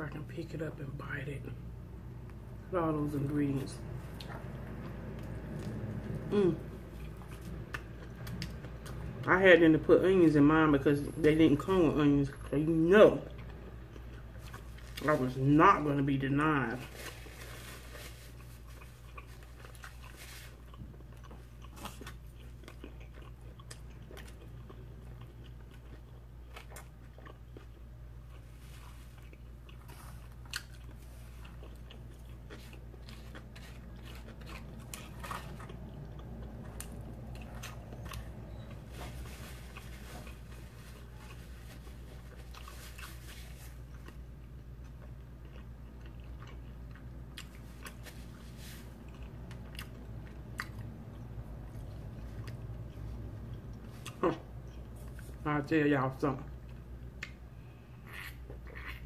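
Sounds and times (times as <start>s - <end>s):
low steady hum: 0.0s - 59.0s
close chewing and lip-smacking: 4.0s - 9.4s, 12.4s - 15.1s, 18.3s - 38.8s, 39.4s - 55.4s, 56.5s - 59.0s.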